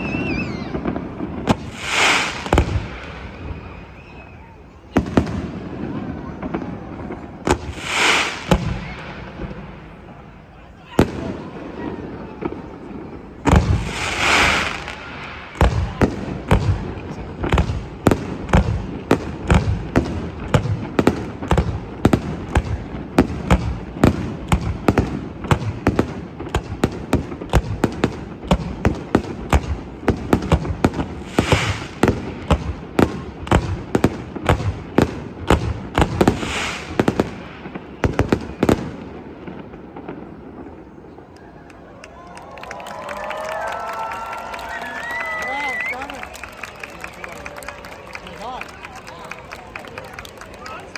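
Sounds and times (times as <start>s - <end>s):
hissing fireworks bursts: 0.0s - 41.6s
fireworks bangs: 0.0s - 41.7s.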